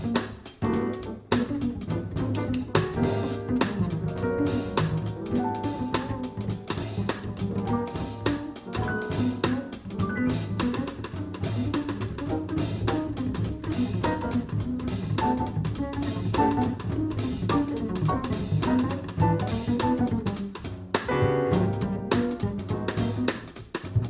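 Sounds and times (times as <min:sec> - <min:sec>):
bass notes: 0:00.0 - 0:24.0
drum kit cymbal and drum strokes: 0:00.0 - 0:24.0
jazz piano: 0:00.0 - 0:24.0.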